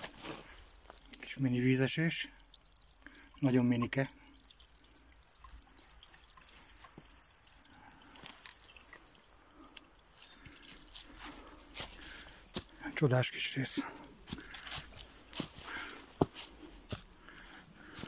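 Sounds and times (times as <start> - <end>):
small water drips: 0.0 - 18.0
stream trickling: 0.0 - 18.0.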